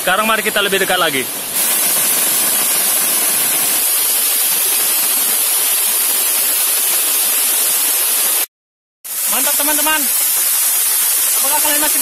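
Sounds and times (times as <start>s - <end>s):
waterfall rushing over rocks: 0.0s - 8.5s, 9.1s - 12.0s.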